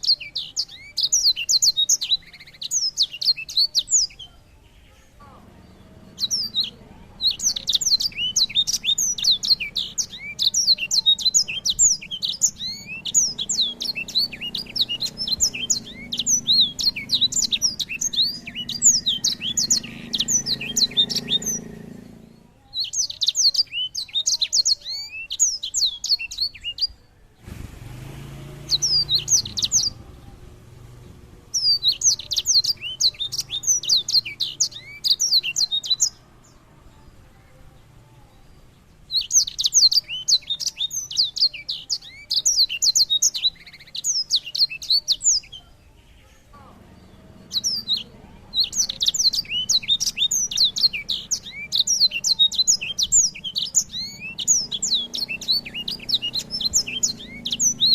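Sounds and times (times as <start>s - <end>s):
songbird singing: 0.0s - 57.9s.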